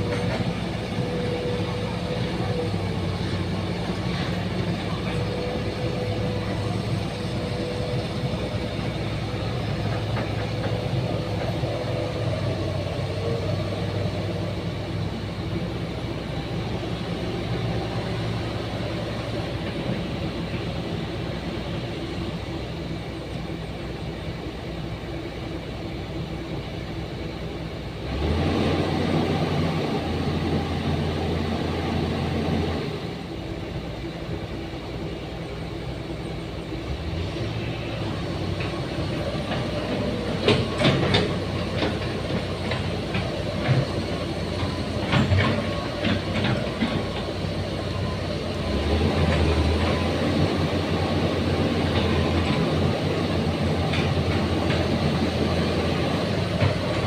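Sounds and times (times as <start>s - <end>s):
excavator engine droning: 0.0s - 57.0s.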